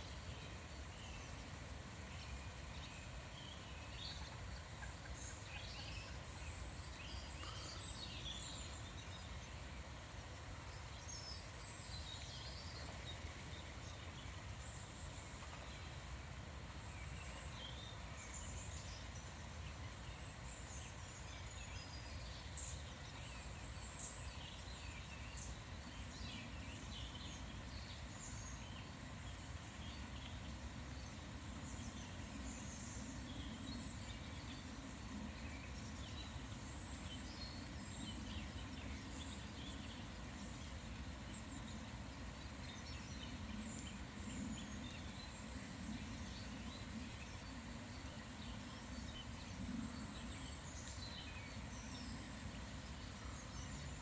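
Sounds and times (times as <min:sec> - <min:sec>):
faint low background noise: 0:00.0 - 0:54.0.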